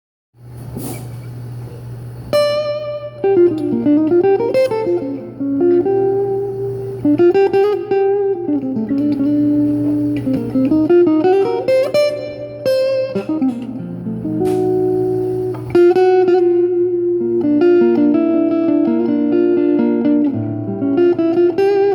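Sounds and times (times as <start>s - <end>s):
steady low hum: 0.4s - 18.4s
acoustic guitar playing: 2.2s - 21.9s.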